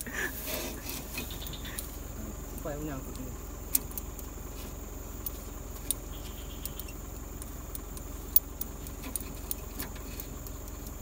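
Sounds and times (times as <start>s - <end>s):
high insect drone: 0.0s - 11.0s
vehicle engine idling: 0.0s - 11.0s
light metallic clicks: 0.8s - 4.3s, 5.2s - 11.0s.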